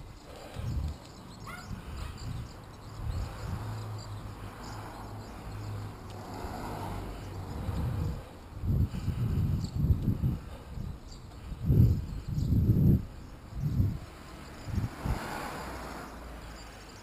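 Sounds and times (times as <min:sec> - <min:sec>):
wind buffeting microphone: 0:00.0 - 0:16.9
bicycle road noise: 0:00.0 - 0:17.0.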